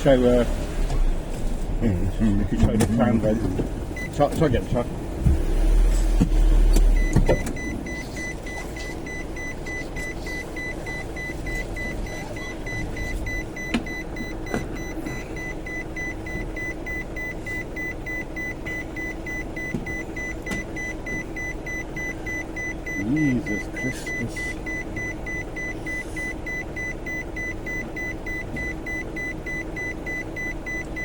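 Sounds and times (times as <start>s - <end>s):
lorry engine running: 0.0s - 31.0s
lorry warning alarm beeping: 2.9s - 4.9s, 6.6s - 31.0s.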